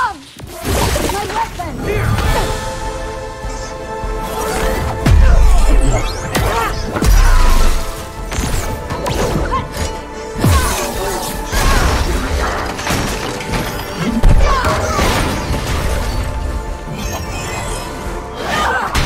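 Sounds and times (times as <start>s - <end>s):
dramatic film score: 0.0s - 19.0s.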